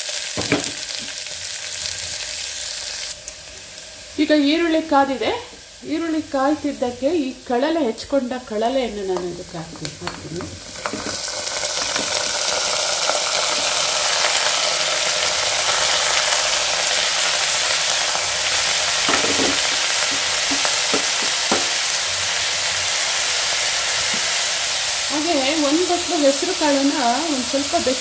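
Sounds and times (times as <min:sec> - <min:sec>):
bamboo shoots sizzling in oil: 0:00.0 - 0:28.0.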